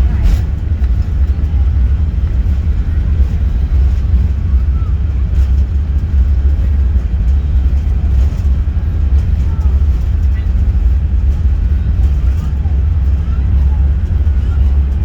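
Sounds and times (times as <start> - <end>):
airplane cabin engine rumble: 0.0 - 15.0
faint voices: 0.0 - 15.0.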